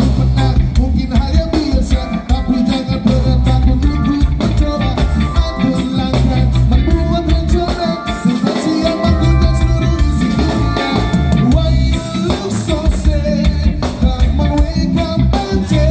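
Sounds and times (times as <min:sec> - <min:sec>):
heavy bass line: 0:00.0 - 0:15.9
live reggae band playing: 0:00.0 - 0:15.9.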